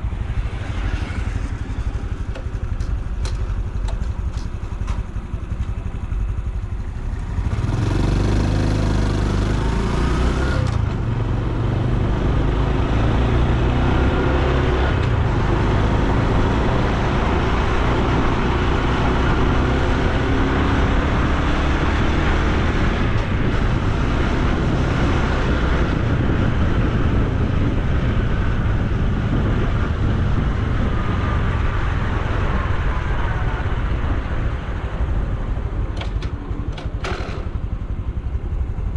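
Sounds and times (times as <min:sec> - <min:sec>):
motorcycle engine accelerating: 0:00.0 - 0:38.9
road noise: 0:00.0 - 0:38.9.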